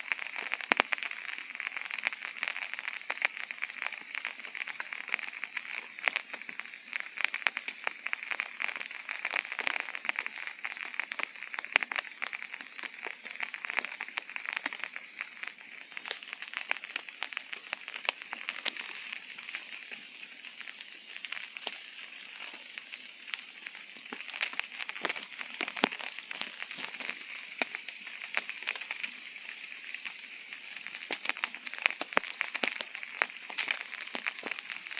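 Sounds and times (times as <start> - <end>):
rain pattering on tent fabric: 0.0 - 34.9.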